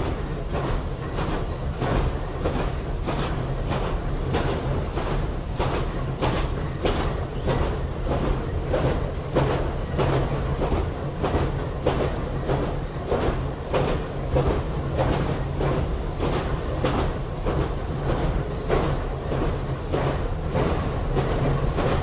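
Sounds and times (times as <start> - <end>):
railcar low hum: 0.0 - 22.0.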